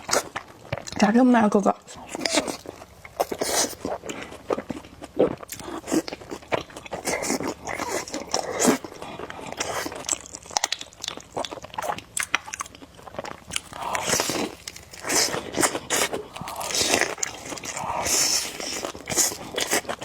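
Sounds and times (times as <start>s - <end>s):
wet biting and chewing: 2.1s - 20.0s.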